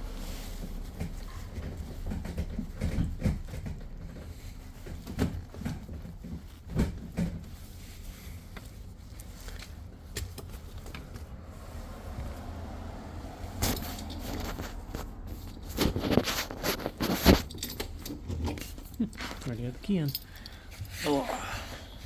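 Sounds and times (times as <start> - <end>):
handling knocks and thumps: 0.0 - 12.5, 13.5 - 21.1.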